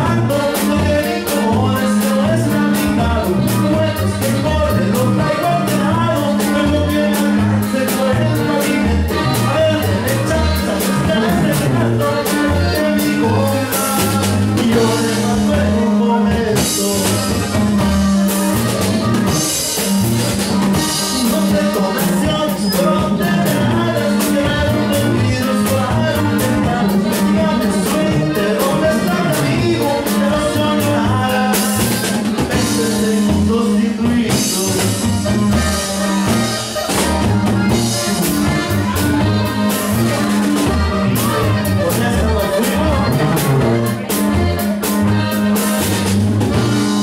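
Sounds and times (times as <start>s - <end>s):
person singing: 0.0s - 19.9s, 20.6s - 45.7s
bass notes: 0.0s - 47.0s
drums: 0.0s - 47.0s
guitar: 0.0s - 47.0s.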